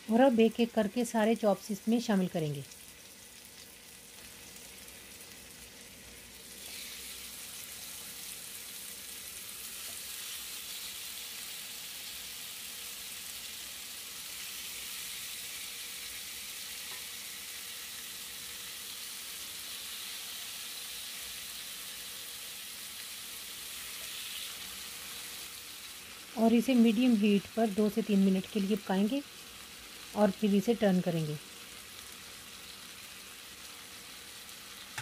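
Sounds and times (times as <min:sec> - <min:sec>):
meat sizzling in grill pan: 0:00.0 - 0:35.0.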